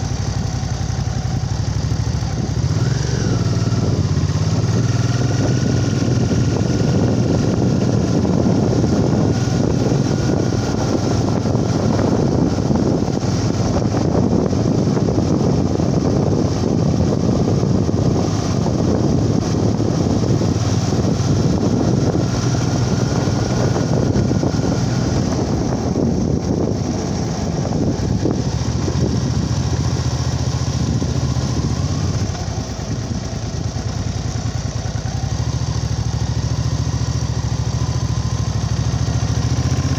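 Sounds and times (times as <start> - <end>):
constant rushing noise: 0.0 - 39.9
small engine running: 0.0 - 39.9.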